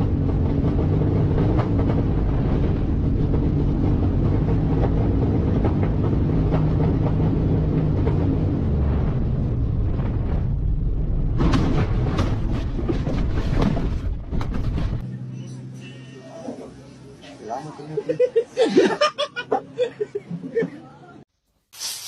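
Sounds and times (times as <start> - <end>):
vehicle engine and road noise: 0.0 - 17.8.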